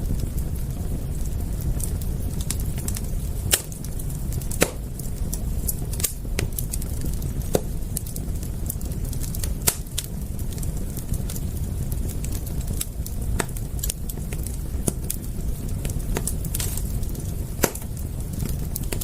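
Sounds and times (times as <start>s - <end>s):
sharp pops of fire: 0.0s - 19.0s
wood fire crackling: 0.0s - 19.0s.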